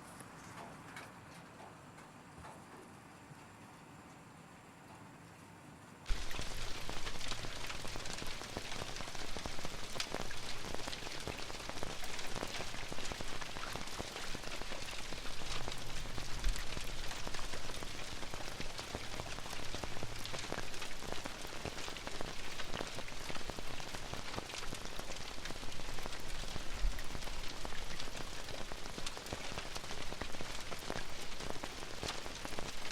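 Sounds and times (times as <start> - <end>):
rain drops tapping on roof: 6.1 - 32.9.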